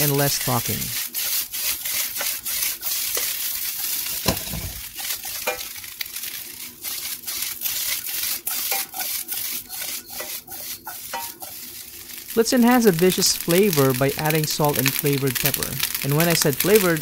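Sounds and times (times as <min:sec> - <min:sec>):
rice sizzling in a wok: 0:00.0 - 0:17.0
spatula scraping a wok: 0:00.0 - 0:17.0.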